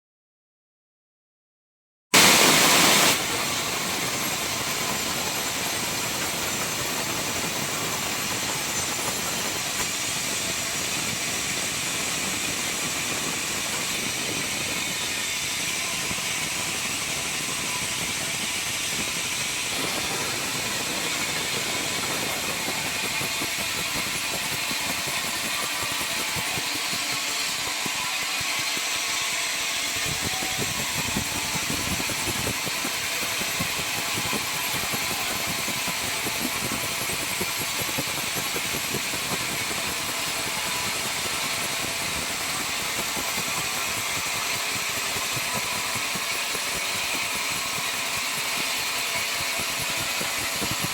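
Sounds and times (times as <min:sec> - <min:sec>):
circular saw machinery whirring: 0:02.7 - 0:50.9.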